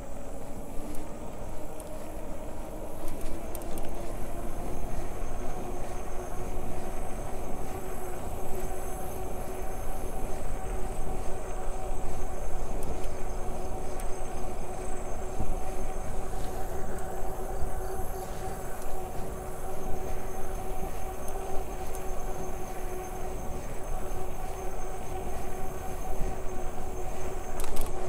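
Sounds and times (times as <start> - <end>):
electric bike motor whining: 0.0 - 28.0
wind rumble on microphone: 0.0 - 28.0.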